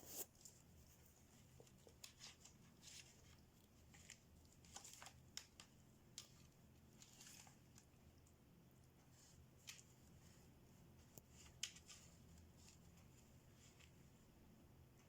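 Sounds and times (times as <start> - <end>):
faint scratchy clicks and rustles: 0.1 - 15.0.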